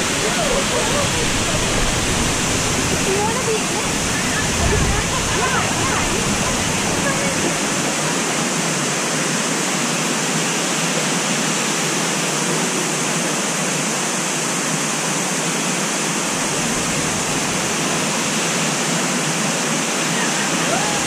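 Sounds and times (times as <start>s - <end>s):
waterfall rushing water: 0.0s - 21.0s.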